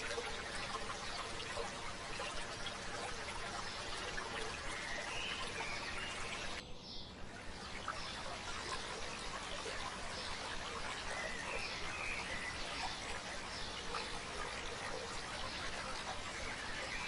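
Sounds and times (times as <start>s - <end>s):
stream babbling: 0.0s - 6.6s, 7.2s - 17.0s
small birds chirping: 0.0s - 17.0s.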